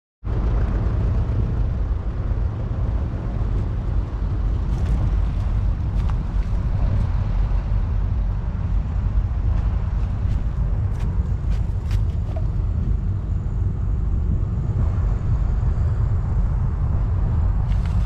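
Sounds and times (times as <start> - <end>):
diesel engine rumbling: 0.3 - 18.0.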